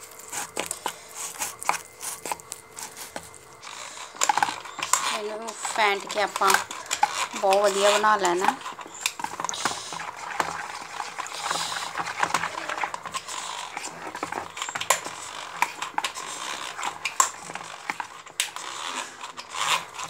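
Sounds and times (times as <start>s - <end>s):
whisk churning batter: 0.0s - 20.0s
whisk wires clicking on bowl: 0.0s - 20.0s.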